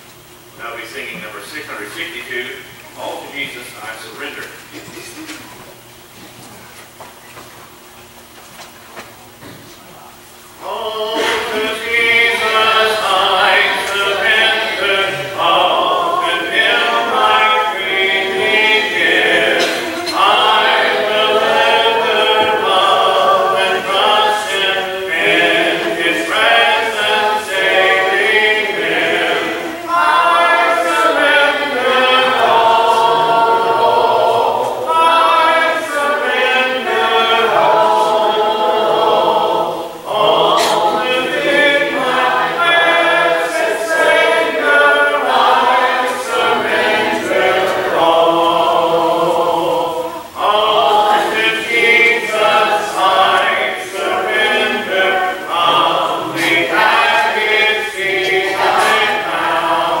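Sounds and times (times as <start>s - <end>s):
congregation singing a hymn: 0.0s - 7.0s, 10.2s - 60.0s.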